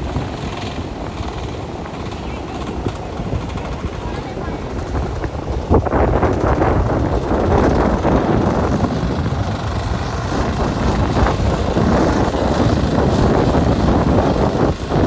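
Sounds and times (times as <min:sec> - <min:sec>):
boat motor running: 0:00.0 - 0:15.0
wind noise on microphone: 0:00.0 - 0:15.0.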